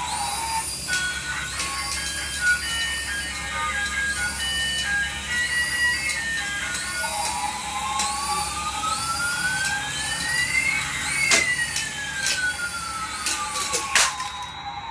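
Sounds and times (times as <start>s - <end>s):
electronic siren-like warbling: 0.0s - 14.9s.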